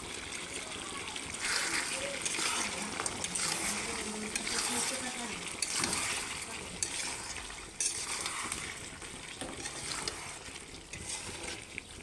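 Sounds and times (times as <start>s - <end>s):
curry sizzling in oil: 0.0s - 12.0s
spoon stirring and scraping pot: 1.4s - 12.0s.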